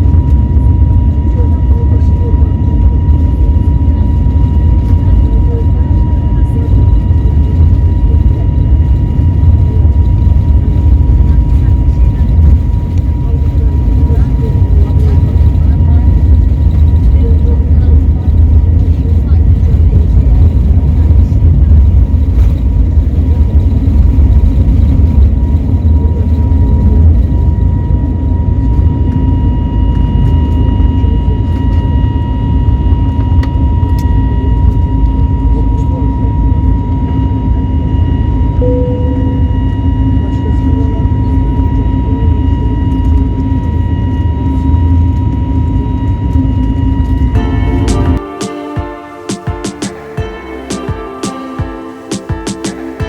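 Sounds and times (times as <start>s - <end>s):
high engine whine: 0.0s - 53.0s
jet engines rumbling: 0.0s - 53.0s.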